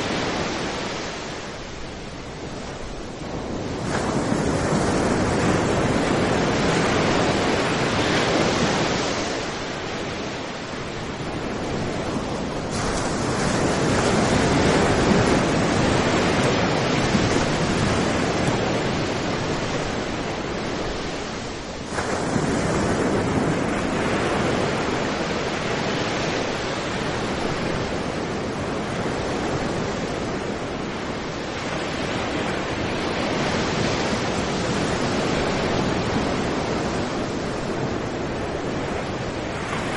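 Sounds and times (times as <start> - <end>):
surf breaking on beach: 0.0 - 39.9.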